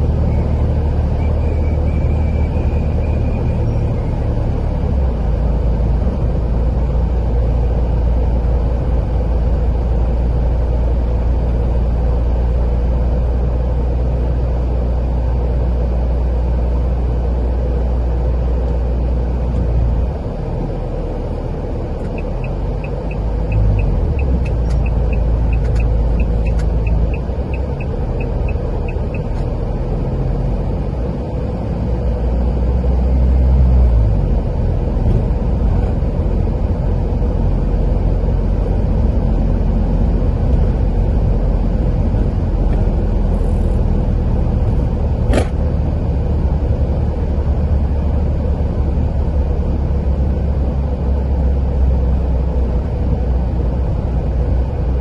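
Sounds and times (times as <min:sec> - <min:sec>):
engine and tyre rumble: 0:00.0 - 0:55.0.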